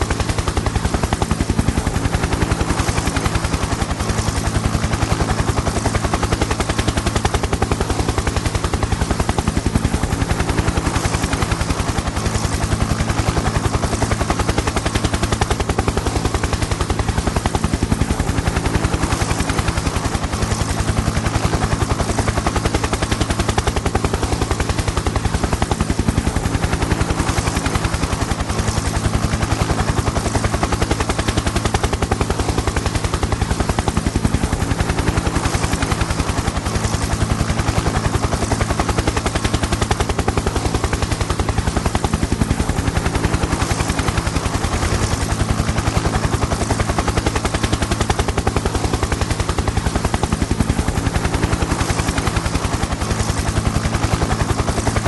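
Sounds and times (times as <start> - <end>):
engine and turbine drone: 0.0 - 55.0
helicopter rotor blades chopping: 0.0 - 55.0.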